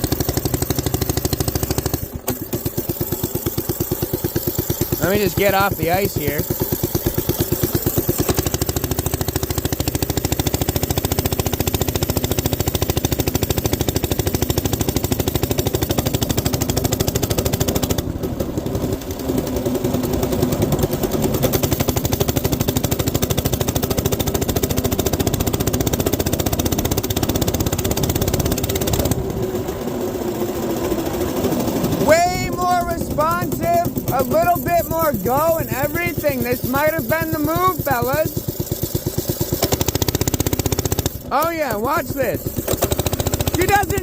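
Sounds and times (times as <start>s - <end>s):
minibike engine running: 0.0s - 44.0s.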